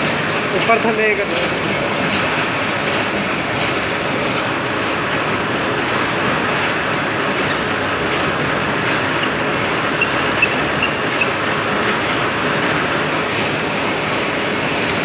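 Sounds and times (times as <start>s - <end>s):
drilling machine motor and gearing: 0.0s - 15.0s.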